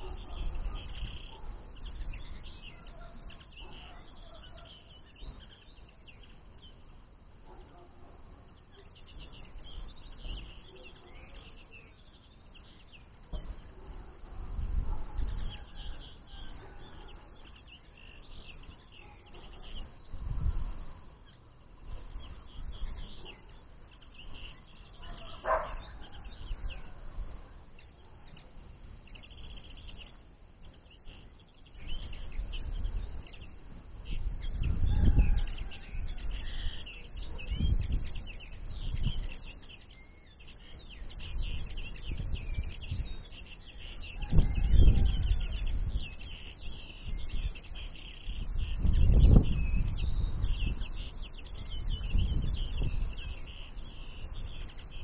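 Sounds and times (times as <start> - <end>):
wind rumble on microphone: 0.0 - 7.4, 8.3 - 55.0
small songbirds chirping: 0.0 - 55.0.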